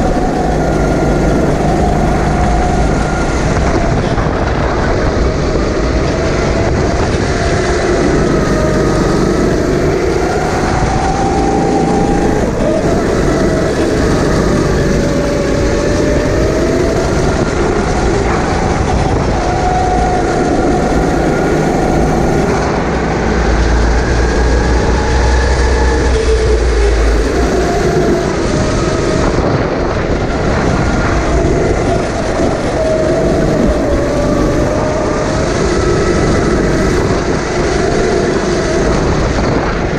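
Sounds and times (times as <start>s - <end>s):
heavy low rumble: 0.0s - 39.9s
kart engine running hard: 0.0s - 39.9s.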